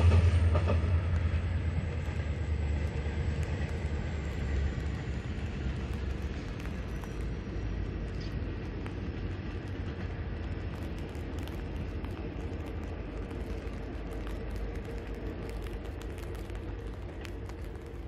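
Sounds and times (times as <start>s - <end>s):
freight train rumbling: 0.0s - 18.0s
light ticks: 0.6s - 18.0s.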